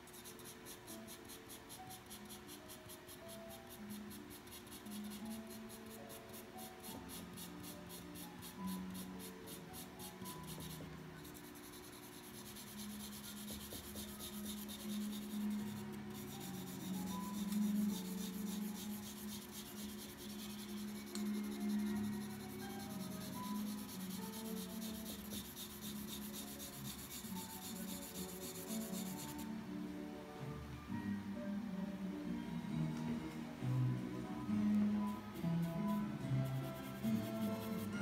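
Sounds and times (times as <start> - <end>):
pencil scratching on paper: 0.0 - 29.4, 35.0 - 38.0
soft background music: 0.0 - 38.0.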